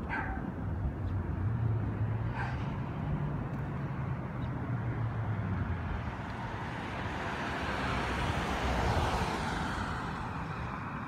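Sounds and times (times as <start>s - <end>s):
road traffic noise: 0.0s - 11.0s
vehicle passing: 0.1s - 11.0s.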